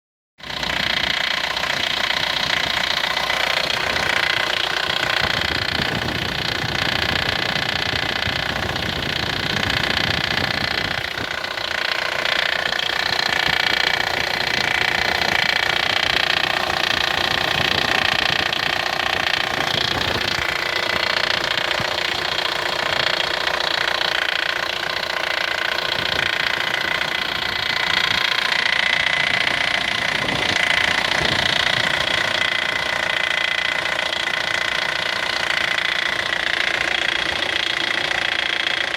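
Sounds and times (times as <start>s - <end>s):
pickup engine running: 0.4s - 38.9s
rapid crackling rattle: 0.4s - 38.9s.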